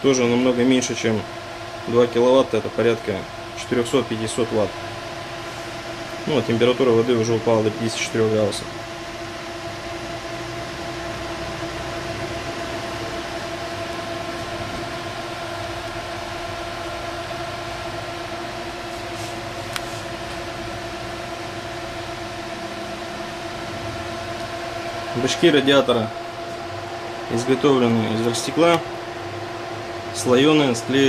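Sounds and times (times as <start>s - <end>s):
computer fans rushing air: 0.0s - 31.0s.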